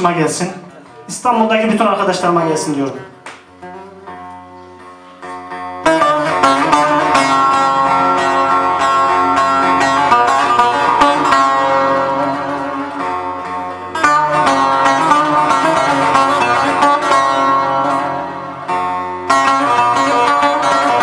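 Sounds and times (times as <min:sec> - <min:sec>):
folk instrumental ensemble: 0:00.0 - 0:21.0
long-necked lute plucking: 0:03.6 - 0:21.0.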